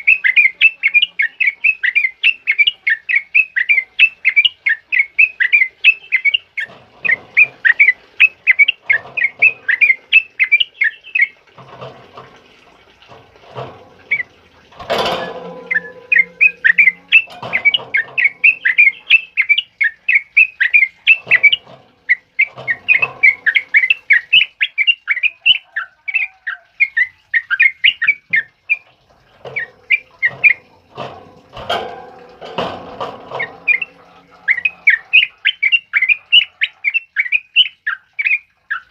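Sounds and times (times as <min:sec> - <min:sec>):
bird singing rapid chirps: 0:00.0 - 0:11.4, 0:13.5 - 0:38.9
soft low bird calls: 0:00.0 - 0:11.9, 0:13.1 - 0:38.9.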